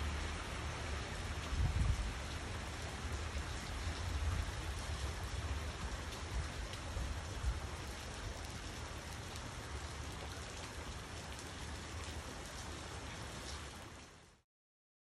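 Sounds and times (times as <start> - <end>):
steady rain falling: 0.0 - 14.4.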